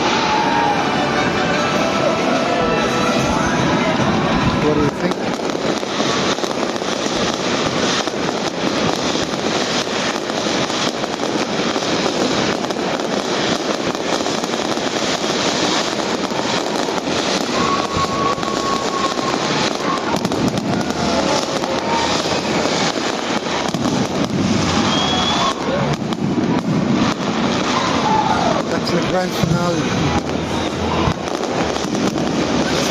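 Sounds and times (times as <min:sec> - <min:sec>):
fireworks crackling and popping: 0:00.0 - 0:32.9.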